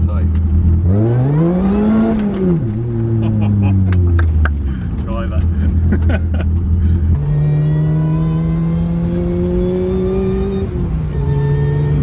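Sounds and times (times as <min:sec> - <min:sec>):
car engine pulling under load: 0:02.0 - 0:12.0.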